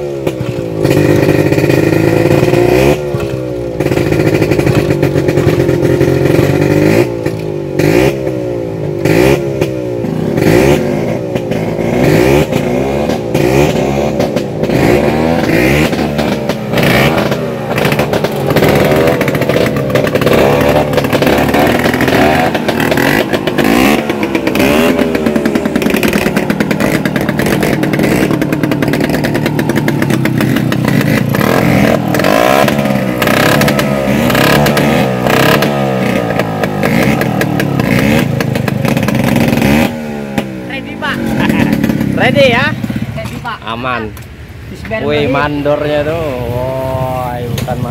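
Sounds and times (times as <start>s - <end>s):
scooter engine revving: 0.0s - 47.9s.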